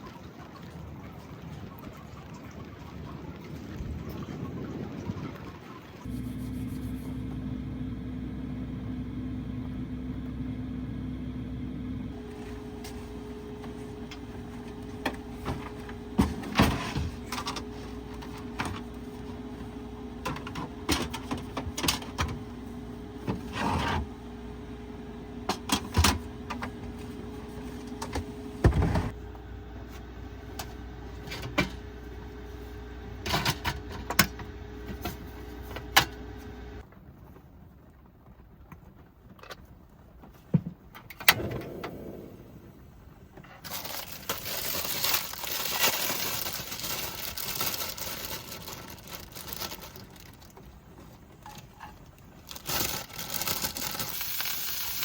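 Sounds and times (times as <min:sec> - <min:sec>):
electrical hum: 0:03.8 - 0:36.8, 0:41.2 - 0:55.0.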